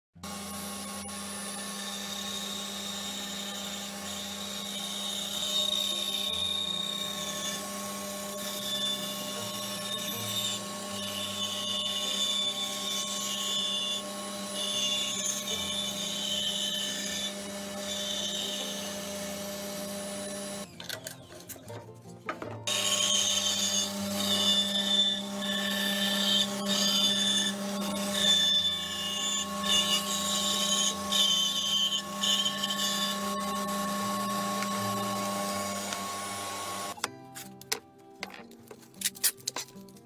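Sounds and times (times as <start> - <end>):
bandsaw cutting wood: 0.2 - 20.7, 22.7 - 37.0.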